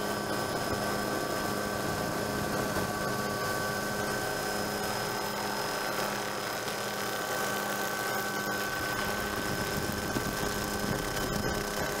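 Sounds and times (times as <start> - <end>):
helicopter engine and rotor drone: 0.0 - 12.0
high-pitched whines: 0.0 - 12.0.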